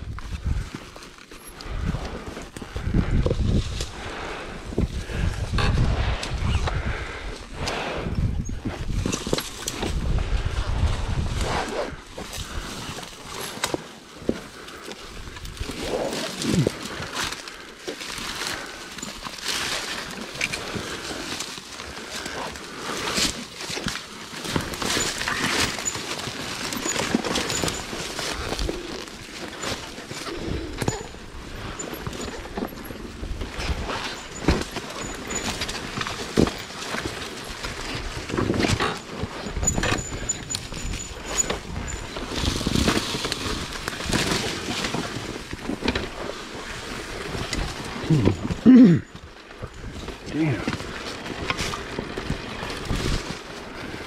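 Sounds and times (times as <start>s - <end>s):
branches crackling under tyres: 0.0s - 54.0s
dirt bike engine at low revs: 1.4s - 54.0s.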